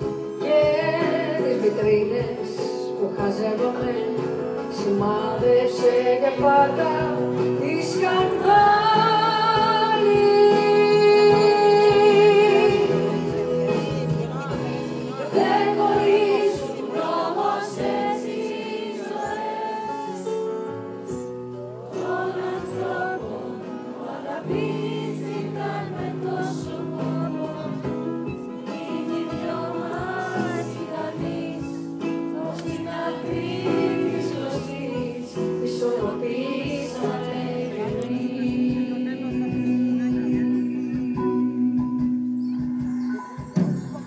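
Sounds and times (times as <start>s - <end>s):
live band with singing: 0.0s - 44.0s.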